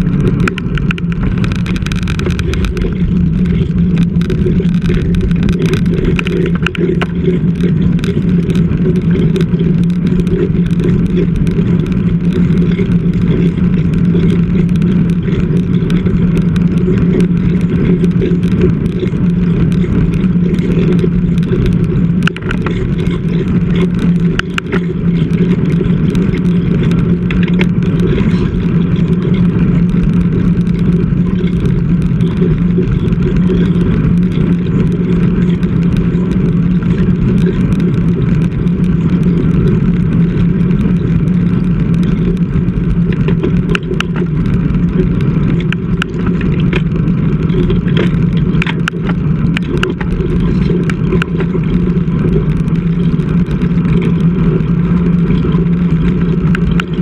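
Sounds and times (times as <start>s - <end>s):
constant low hum: 0.0s - 57.0s
road noise: 0.0s - 57.0s.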